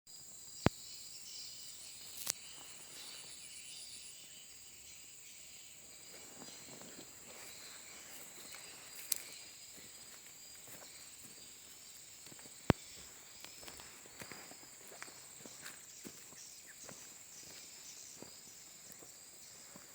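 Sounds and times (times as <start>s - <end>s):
faint twittering bird chirps: 0.1s - 19.9s.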